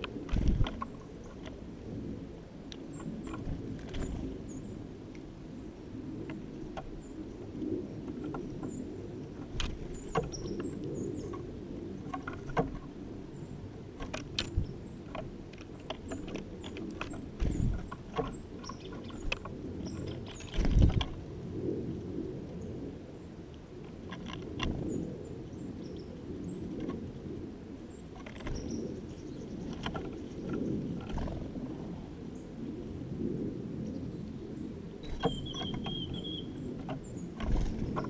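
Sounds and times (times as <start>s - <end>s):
songbirds chirping: 0.0s - 38.0s
steady low rumble: 0.0s - 38.0s.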